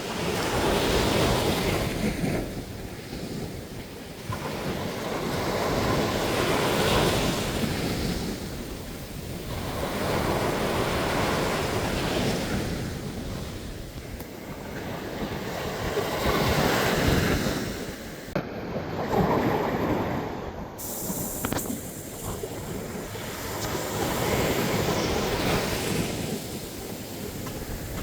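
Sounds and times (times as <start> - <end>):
sea surf breaking on beach: 0.0 - 28.0.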